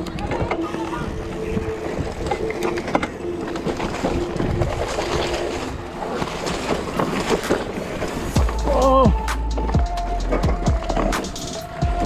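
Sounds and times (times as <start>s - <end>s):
mountain bike rattling over rocks: 0.0s - 12.0s
tyre noise: 0.0s - 12.0s
wind: 0.0s - 12.0s.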